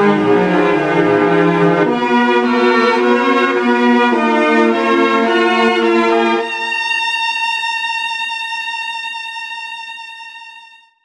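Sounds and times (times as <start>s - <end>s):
string-like chords: 0.0s - 10.7s.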